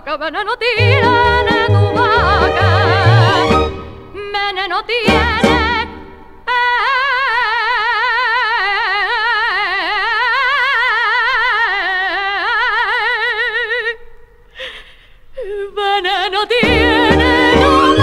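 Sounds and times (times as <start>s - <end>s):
woman singing with vibrato: 0.0s - 14.2s, 15.4s - 18.0s.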